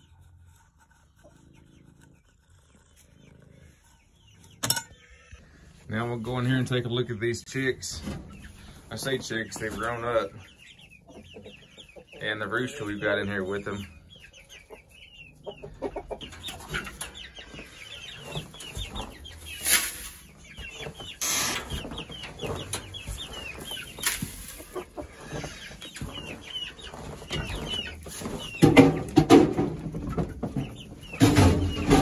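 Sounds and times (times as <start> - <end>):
chickens peeping and clucking: 0.0 - 32.0.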